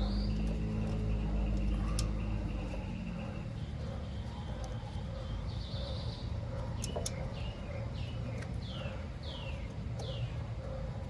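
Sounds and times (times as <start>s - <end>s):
bird chirping: 0.0s - 11.0s
low background rumble: 0.0s - 11.0s.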